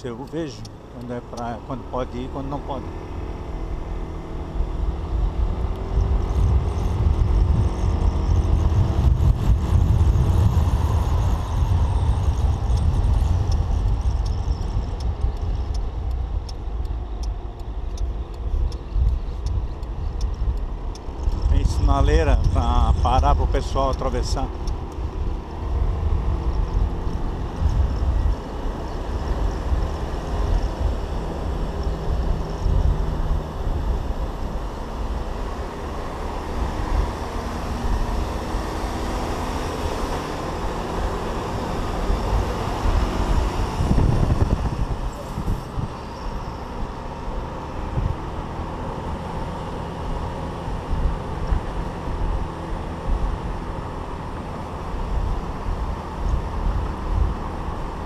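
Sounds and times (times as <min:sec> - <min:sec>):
wind rushing on microphone: 0:02.6 - 0:58.0.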